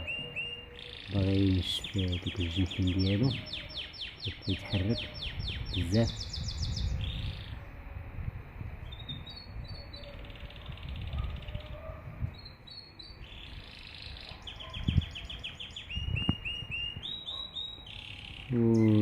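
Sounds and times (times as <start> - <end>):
canary singing trills: 0.0 - 7.8, 8.8 - 19.0.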